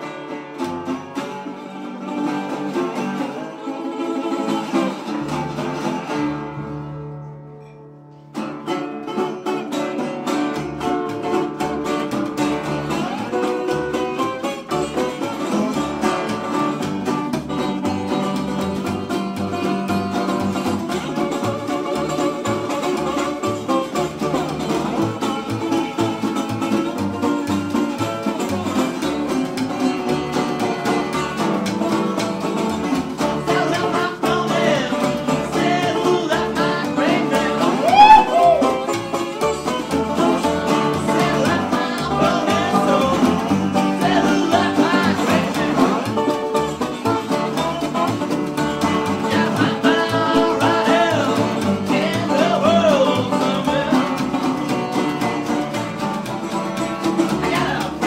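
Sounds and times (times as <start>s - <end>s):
acoustic blues band playing: 0.0s - 58.0s.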